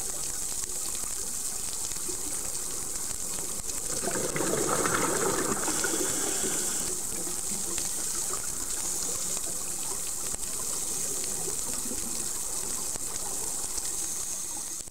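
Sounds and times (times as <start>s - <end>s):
faint bubbling: 0.0s - 14.9s
underwater hiss: 0.0s - 14.9s.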